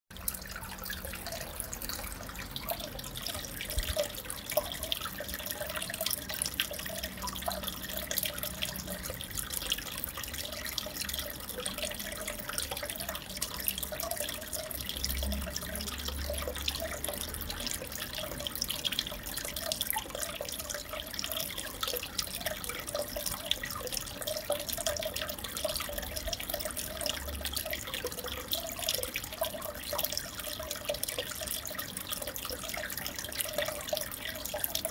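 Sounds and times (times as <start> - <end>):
aquarium water trickling: 0.1 - 34.9
water drips and splashes: 0.1 - 34.9.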